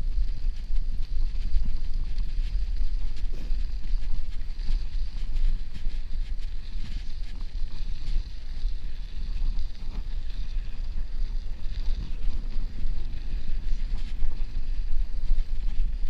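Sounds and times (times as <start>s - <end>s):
tyres rolling over packed snow: 0.0s - 16.0s
wind buffeting microphone: 0.0s - 16.0s.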